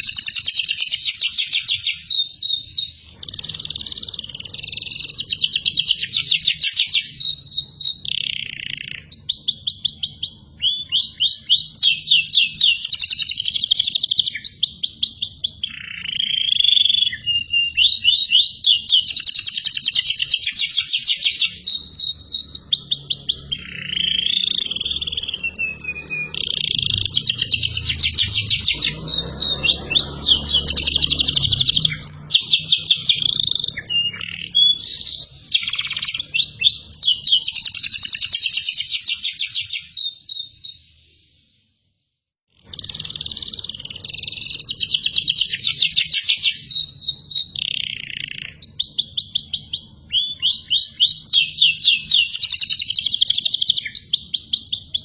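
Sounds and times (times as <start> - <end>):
canary singing trills: 0.0 - 41.7, 42.6 - 55.0.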